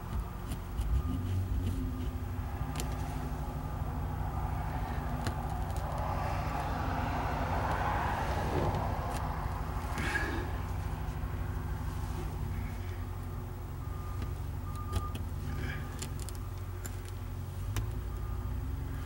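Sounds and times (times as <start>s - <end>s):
traffic engine hum: 0.0s - 19.0s
tyre noise of approaching vehicle: 0.0s - 19.0s.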